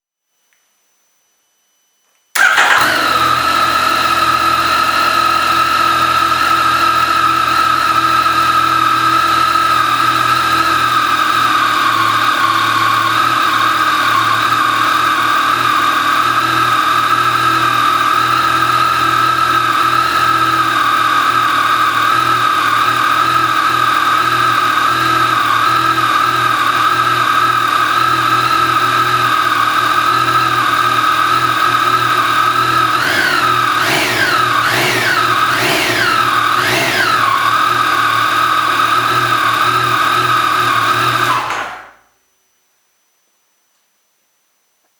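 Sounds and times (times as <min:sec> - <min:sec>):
motorcycle engine idling: 0:02.4 - 0:42.0.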